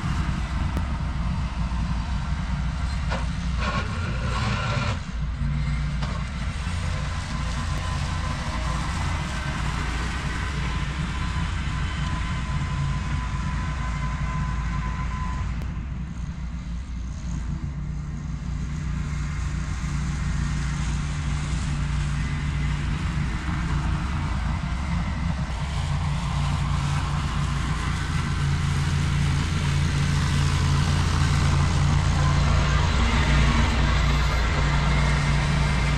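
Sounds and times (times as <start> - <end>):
tractor engine under load: 0.0 - 35.9
brush mower cutting grass: 2.5 - 15.2, 19.0 - 35.9.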